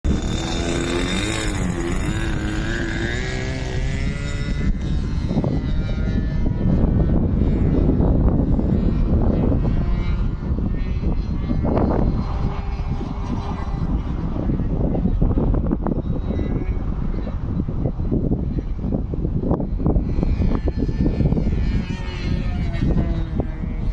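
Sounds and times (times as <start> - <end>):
model airplane engine running: 0.0 - 23.9
wind buffeting microphone: 0.0 - 23.9.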